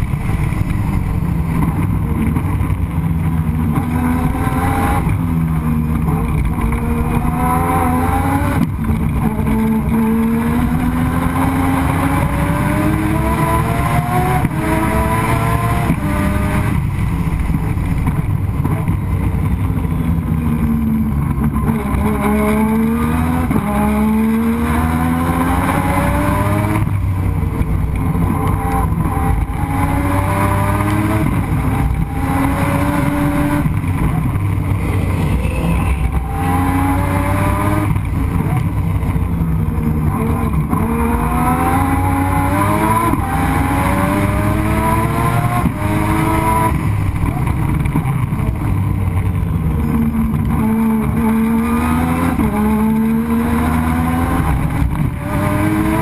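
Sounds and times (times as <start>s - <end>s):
heavy low rumble: 0.0s - 11.5s, 12.1s - 23.4s, 26.7s - 53.2s
rotary engine accelerating: 0.0s - 56.0s.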